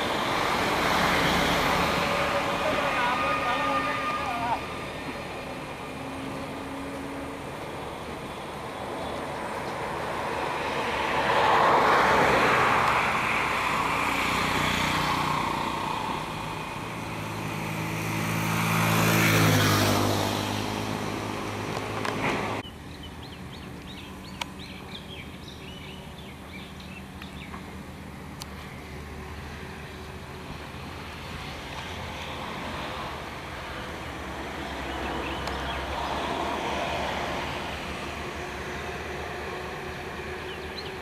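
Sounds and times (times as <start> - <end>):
vehicles passing by: 0.0 - 41.0.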